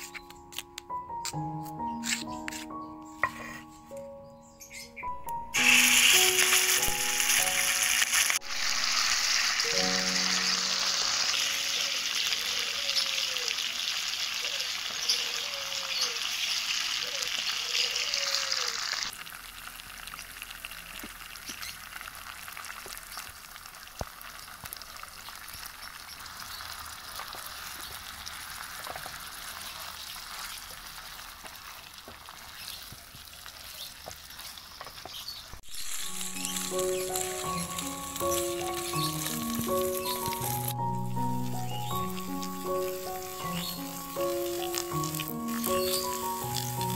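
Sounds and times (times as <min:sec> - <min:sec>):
spice paste sizzling in oil: 0:05.5 - 0:46.9.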